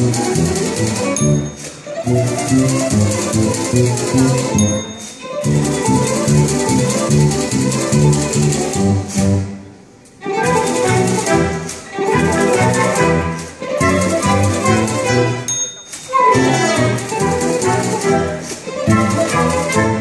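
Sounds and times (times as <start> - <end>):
typewriter clacking: 0.0 - 9.3, 10.4 - 20.0
small orchestra playing light tune: 0.0 - 20.0.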